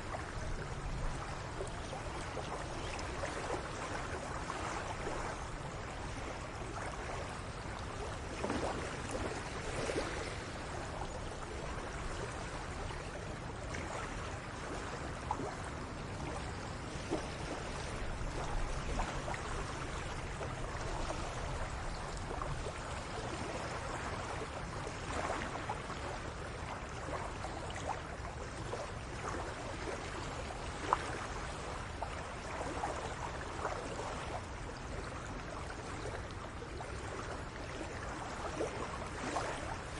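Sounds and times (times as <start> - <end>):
small waves lapping: 0.0 - 39.9.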